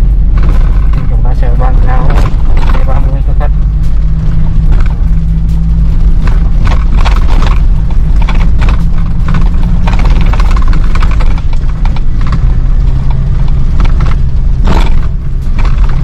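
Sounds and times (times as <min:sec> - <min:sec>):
car engine and road drone: 0:00.0 - 0:16.0
car knocks and rattles: 0:00.0 - 0:16.0.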